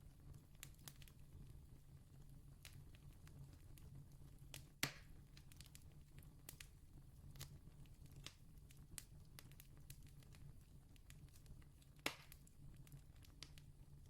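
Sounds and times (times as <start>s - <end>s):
faint campfire crackling: 0.0s - 14.0s.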